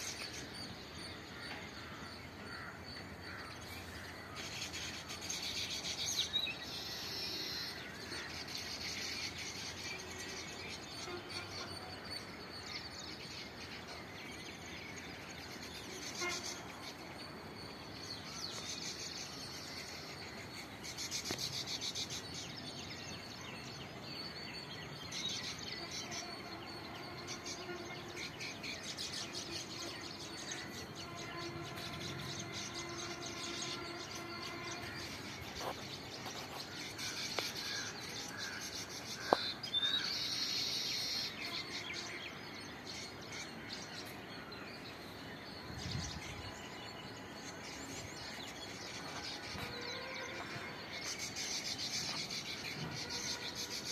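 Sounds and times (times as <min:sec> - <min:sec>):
birds chirping: 0:00.0 - 0:53.9
outdoor background noise: 0:00.0 - 0:53.9.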